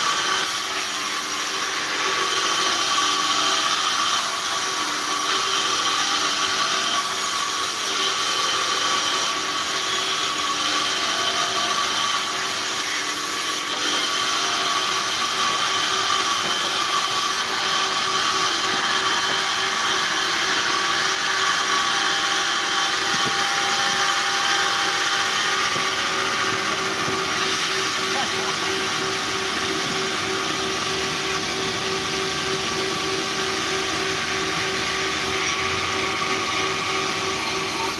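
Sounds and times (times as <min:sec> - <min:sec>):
band saw humming and whining: 0:00.0 - 0:37.9.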